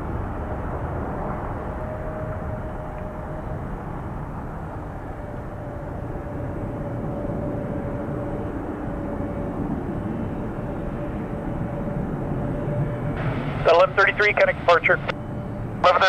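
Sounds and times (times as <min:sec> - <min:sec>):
faint jet engine whine: 0:00.0 - 0:16.0
jet engines rushing: 0:00.0 - 0:16.0.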